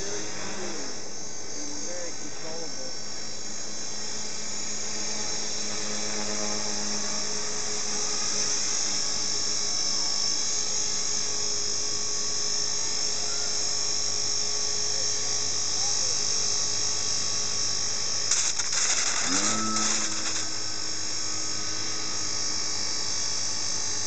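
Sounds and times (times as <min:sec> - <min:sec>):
model aircraft motor whine: 0:00.0 - 0:24.0.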